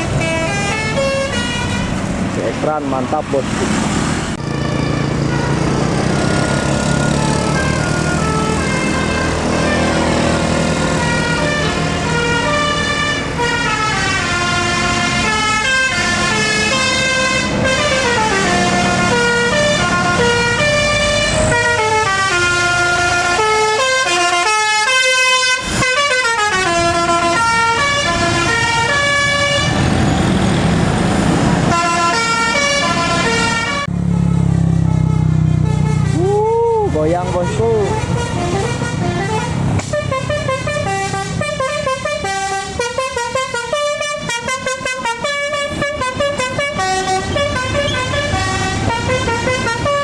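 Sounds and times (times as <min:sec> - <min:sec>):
multi-tone bus horn melody: 0:00.0 - 0:02.2, 0:04.4 - 0:30.8, 0:31.6 - 0:36.4, 0:37.0 - 0:50.0
bus engine: 0:00.0 - 0:50.0.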